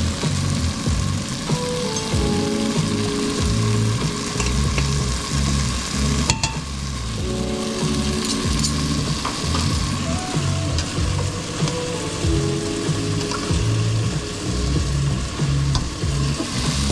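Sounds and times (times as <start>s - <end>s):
low shifting hum: 0.0s - 16.9s
food sizzling in a frying pan: 0.3s - 15.6s.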